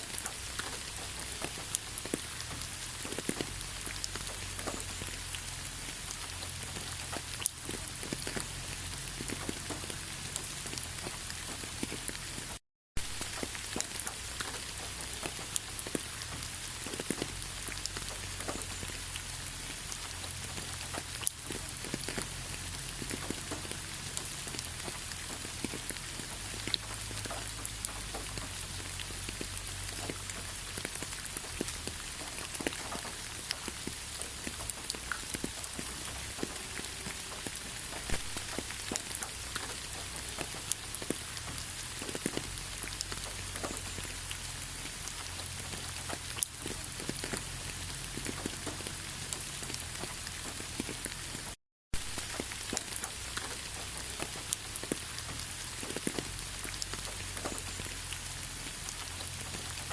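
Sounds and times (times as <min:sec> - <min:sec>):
raindrops pattering on surfaces: 0:00.0 - 0:59.9
steady rain: 0:00.0 - 0:59.9.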